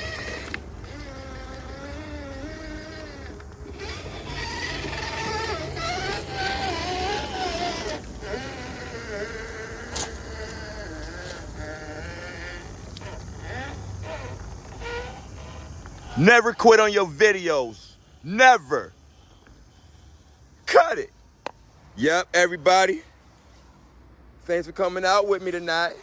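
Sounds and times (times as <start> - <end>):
electric motor whining: 0.0 - 20.9.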